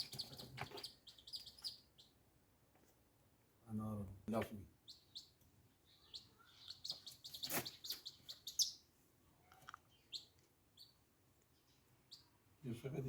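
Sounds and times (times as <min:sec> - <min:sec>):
small birds chirping: 0:00.0 - 0:02.2, 0:04.3 - 0:13.0.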